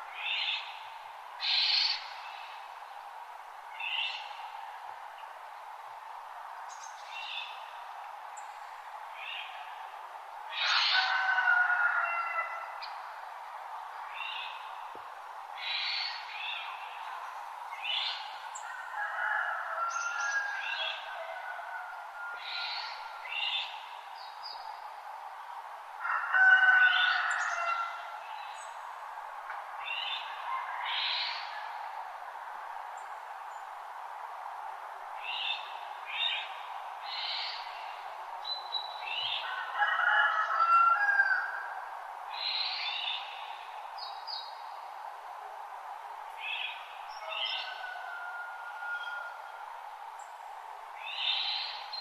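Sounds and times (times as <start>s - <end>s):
steady background hiss: 0.0s - 52.0s.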